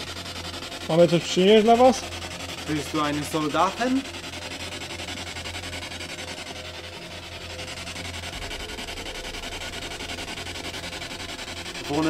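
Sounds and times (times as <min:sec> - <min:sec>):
low hum: 0:00.0 - 0:12.0
stuttering radio static: 0:00.9 - 0:12.0.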